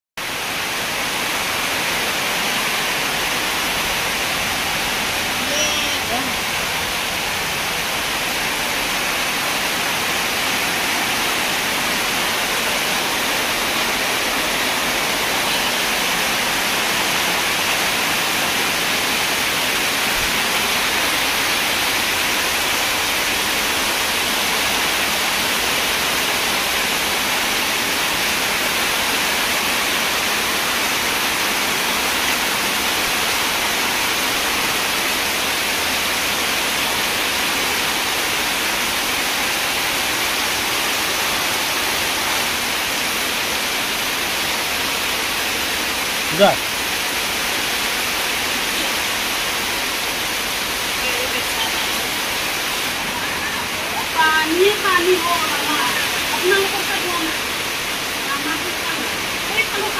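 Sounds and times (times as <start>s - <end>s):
heavy rain pouring: 0.2s - 59.9s.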